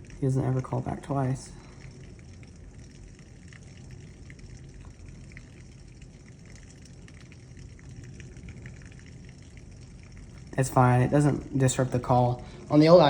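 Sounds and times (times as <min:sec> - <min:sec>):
raindrops ticking: 0:00.0 - 0:13.0.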